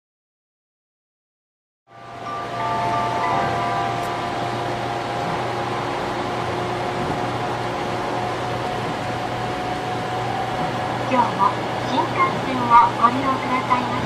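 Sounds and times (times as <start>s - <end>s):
faint steady tones: 1.9s - 14.0s
low hum: 1.9s - 14.0s.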